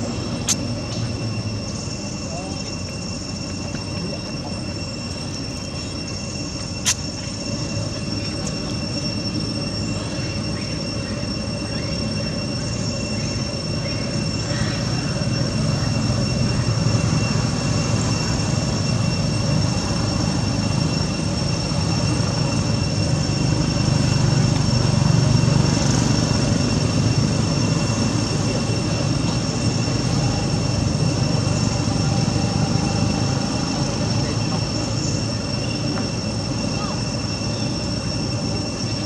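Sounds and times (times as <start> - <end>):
steady high-pitched whine: 0.0 - 39.0.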